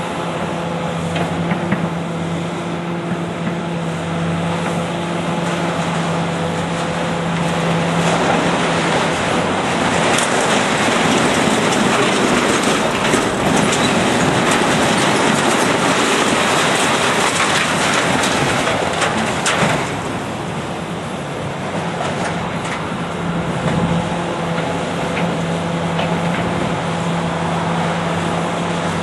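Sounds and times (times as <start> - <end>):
diesel engine hum: 0.0 - 29.0.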